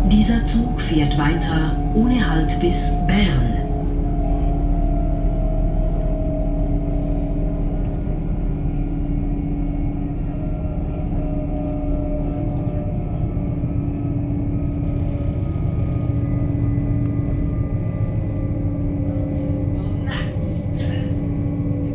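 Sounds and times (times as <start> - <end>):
train rumble: 0.0 - 21.9.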